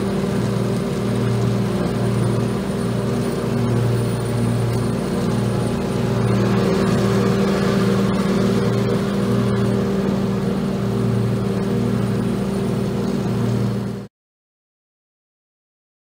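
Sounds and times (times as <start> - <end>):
lawn mower engine running: 0.0 - 14.1.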